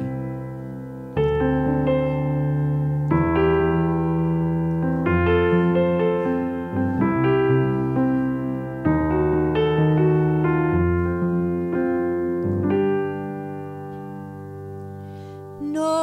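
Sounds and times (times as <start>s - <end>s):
electric piano chords: 0.0s - 16.0s.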